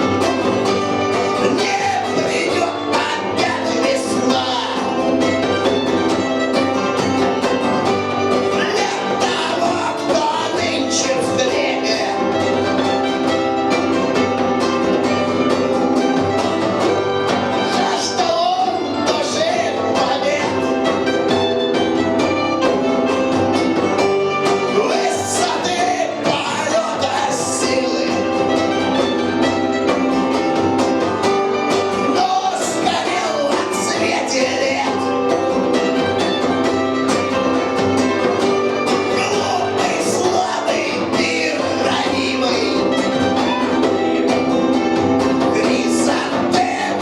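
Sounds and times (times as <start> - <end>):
person singing: 0.0 - 47.0
punk rock band playing: 0.0 - 47.0.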